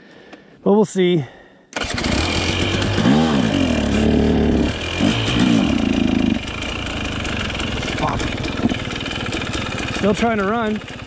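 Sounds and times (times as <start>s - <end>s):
dirt bike engine revving and idling: 1.8s - 11.0s.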